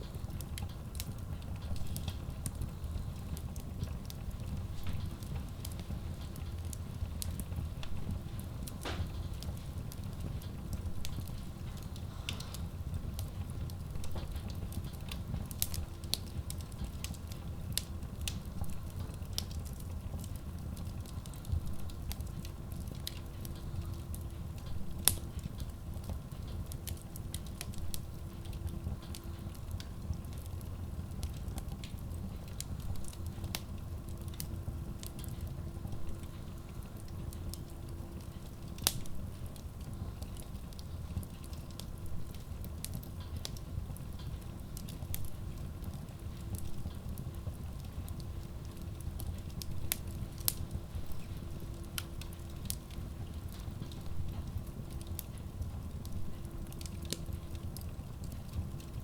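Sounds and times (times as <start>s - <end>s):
fire crackling and popping: 0.0s - 59.0s
wood logs burning in stove: 0.0s - 59.0s.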